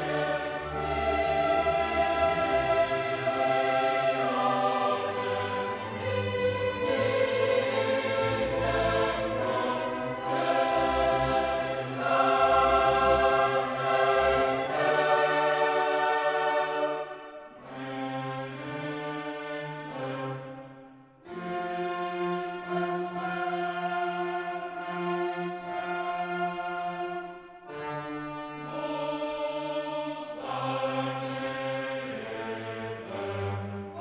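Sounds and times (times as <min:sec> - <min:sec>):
orchestral film music: 0:00.0 - 0:34.0
wordless choir singing: 0:00.0 - 0:34.0.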